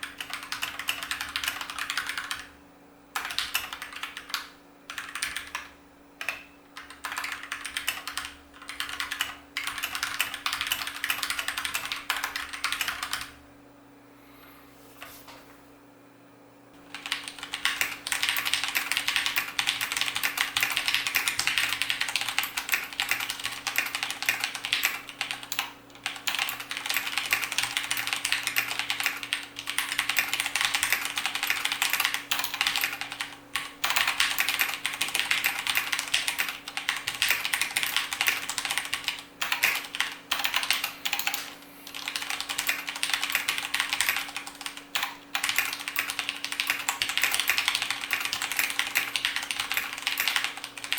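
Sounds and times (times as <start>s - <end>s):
mechanical keyboard typing: 0.0s - 2.5s, 3.1s - 13.4s, 16.8s - 50.9s.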